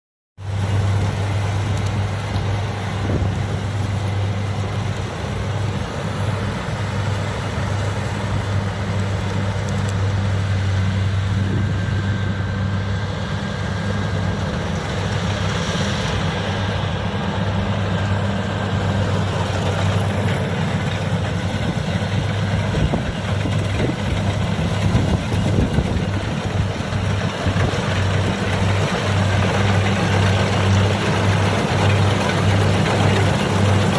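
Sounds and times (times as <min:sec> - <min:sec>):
diesel engine running: 0:00.4 - 0:33.9.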